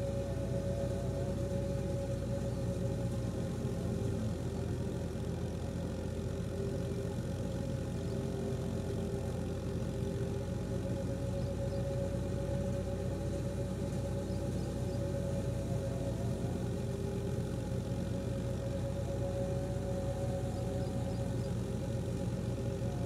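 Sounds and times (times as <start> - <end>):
high whine: 0.0 - 23.0
tractor engine drone: 0.0 - 23.0.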